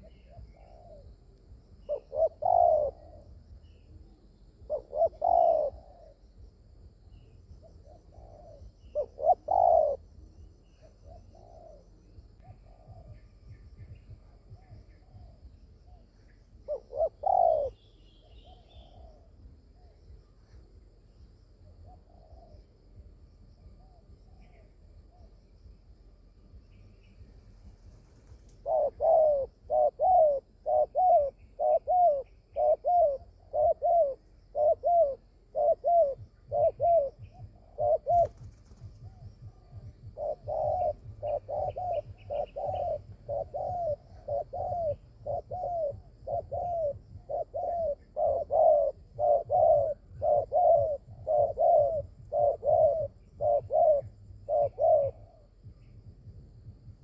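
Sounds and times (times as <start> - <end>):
dove cooing: 0.0 - 20.6, 21.6 - 23.0, 27.4 - 57.0.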